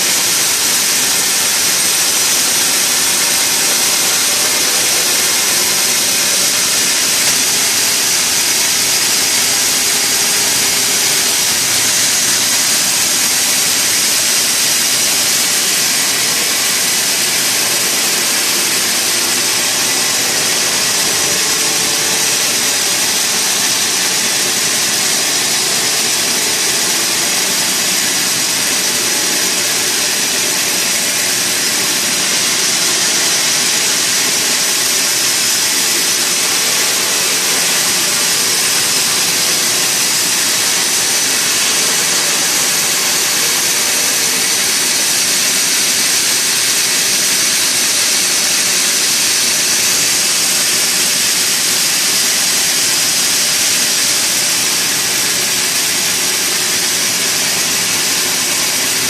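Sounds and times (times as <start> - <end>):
sawmill machinery hissing: 0.0 - 59.0.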